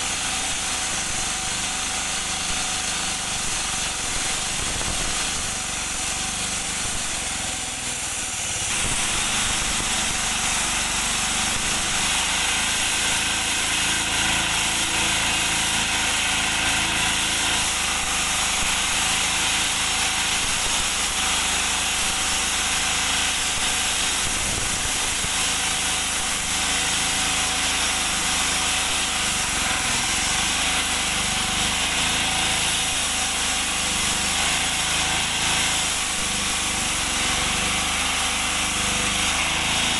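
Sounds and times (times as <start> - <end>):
concrete saw grinding hiss: 0.0 - 39.9
engine running under load: 0.0 - 39.9.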